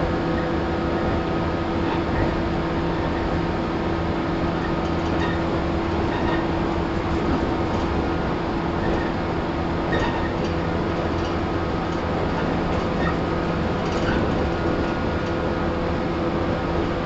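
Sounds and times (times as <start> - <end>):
constant-pitch motor hum: 0.0 - 17.0
train interior rumble: 0.0 - 17.0.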